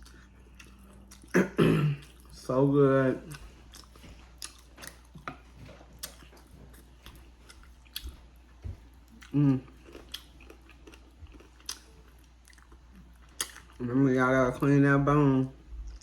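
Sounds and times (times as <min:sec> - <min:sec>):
chewing and mouth smacking: 0:00.0 - 0:01.4, 0:02.0 - 0:02.5, 0:03.2 - 0:13.9, 0:15.7 - 0:16.0.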